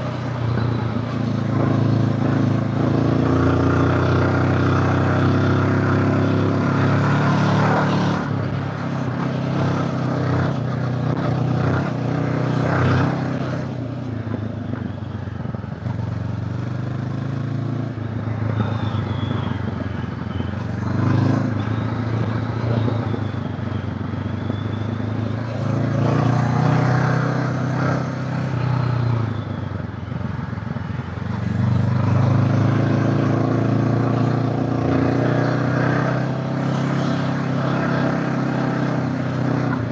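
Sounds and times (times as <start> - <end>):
motorcycle engine revving: 0.0 - 13.9, 15.8 - 39.9
road noise: 0.0 - 39.9.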